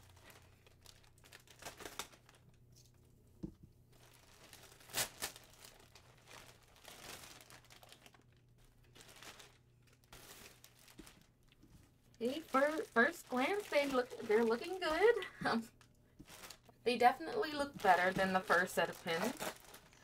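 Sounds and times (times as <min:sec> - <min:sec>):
packaging rustling and crackling: 0:00.0 - 0:03.0, 0:03.9 - 0:20.0.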